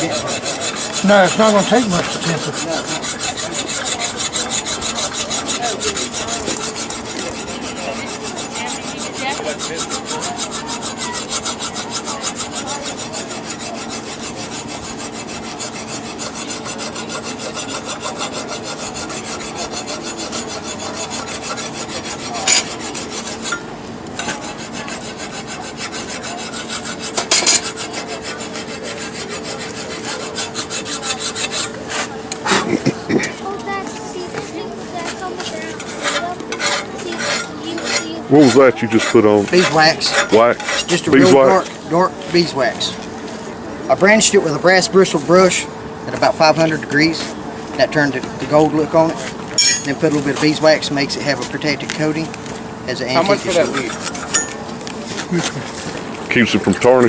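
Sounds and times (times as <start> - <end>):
wire brush rasping on steel: 0.0 - 43.0, 43.9 - 52.3, 52.9 - 56.0.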